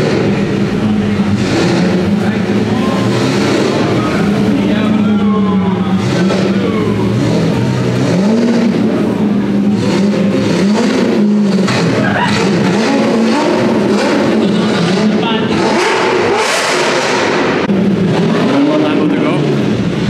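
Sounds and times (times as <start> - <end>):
car engines running: 0.0 - 20.0
engine rev blips: 0.0 - 20.0.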